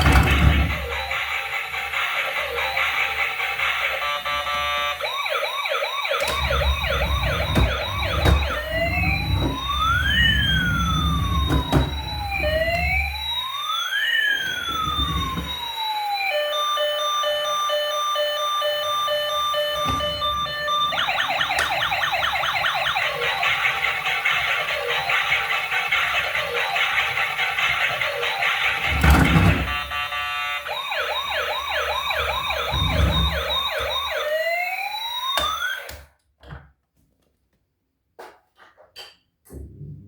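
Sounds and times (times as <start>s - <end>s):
electronic toy siren: 0.0s - 36.1s.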